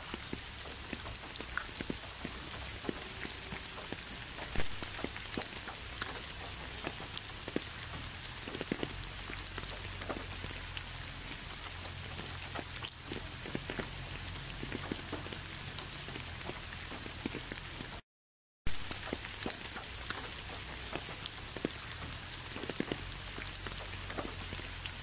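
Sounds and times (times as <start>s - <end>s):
raindrops tapping: 0.1s - 18.0s, 18.7s - 25.0s.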